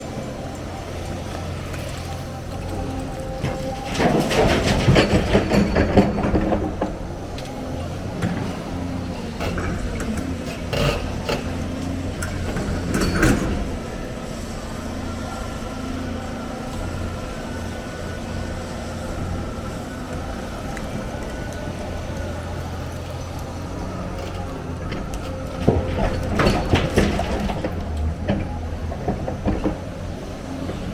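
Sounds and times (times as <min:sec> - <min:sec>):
heavy machinery diesel engine running: 0:00.0 - 0:30.9.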